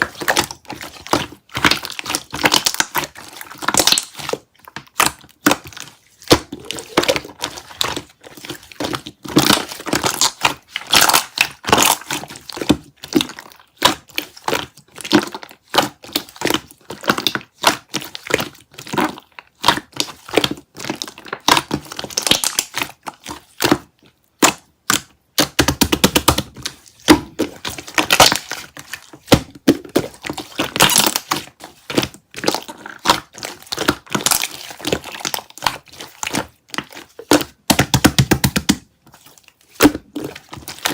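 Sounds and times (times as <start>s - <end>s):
slime squishing with crackles: 0.0s - 40.9s.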